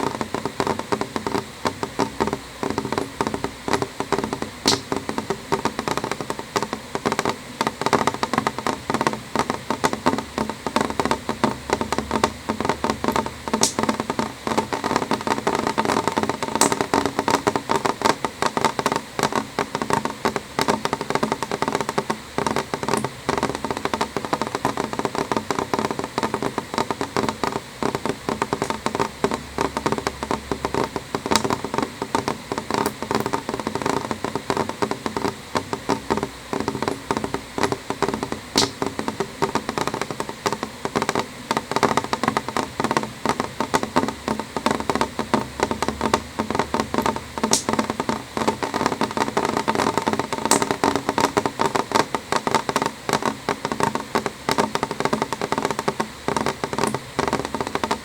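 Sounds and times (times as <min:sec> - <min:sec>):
rain tapping on window glass: 0:00.0 - 0:58.0.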